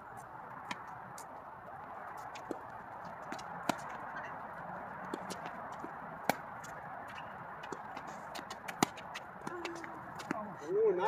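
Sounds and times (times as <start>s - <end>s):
steady background noise: 0.0s - 11.0s
tennis balls struck by rackets: 0.2s - 10.5s.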